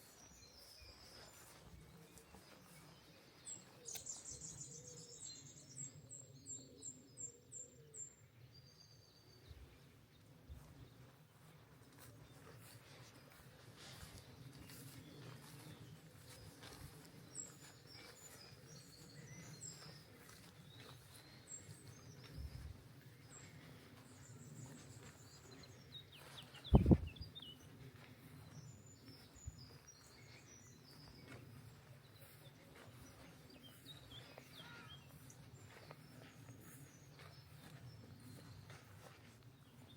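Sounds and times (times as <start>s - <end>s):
faint outdoor ambience: 0.0s - 39.9s
songbirds chirping: 0.0s - 39.9s.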